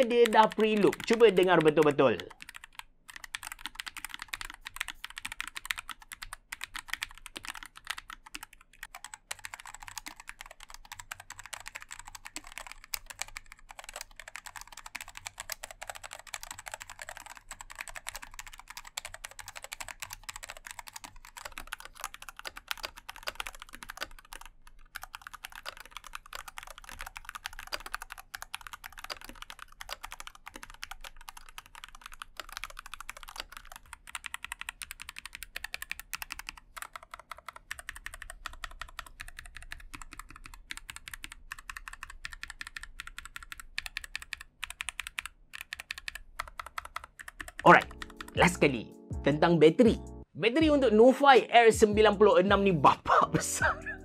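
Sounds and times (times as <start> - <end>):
fast typing on mechanical keyboard: 0.0 - 48.4.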